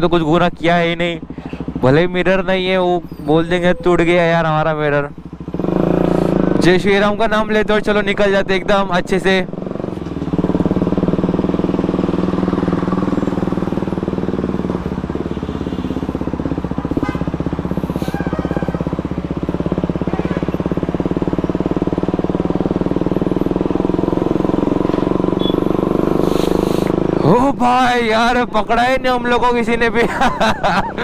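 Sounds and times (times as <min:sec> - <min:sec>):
motorcycle engine running: 0:00.0 - 0:31.0
road noise: 0:00.0 - 0:31.0.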